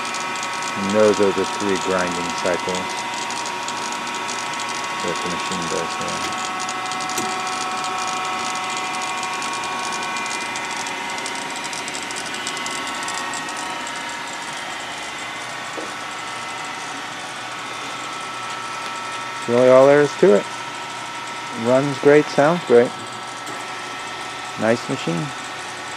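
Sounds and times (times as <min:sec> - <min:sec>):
grinder machine whine: 0:00.0 - 0:25.9.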